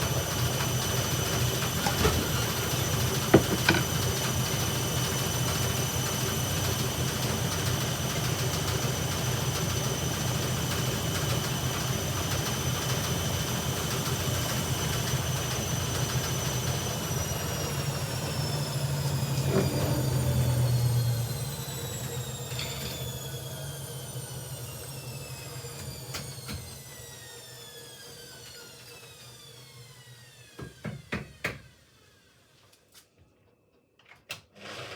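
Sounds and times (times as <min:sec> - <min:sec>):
washing machine motor whining: 0:00.3 - 0:32.4.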